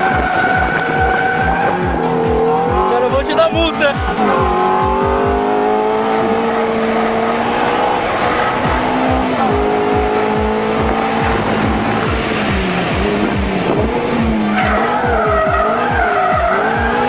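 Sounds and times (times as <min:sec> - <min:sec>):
music with thumping beat: 0:00.0 - 0:17.0
sports car engine revving high: 0:00.0 - 0:17.0.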